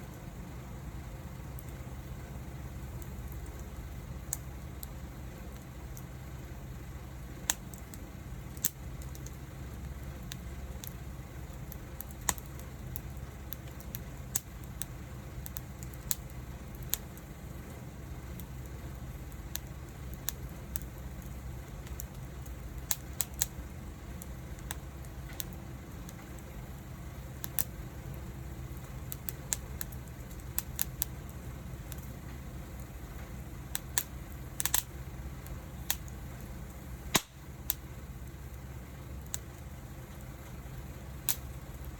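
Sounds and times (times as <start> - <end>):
burning wood popping: 0.0 - 41.9
low rumble of flames: 0.0 - 41.9
wood fire crackling: 0.0 - 41.9.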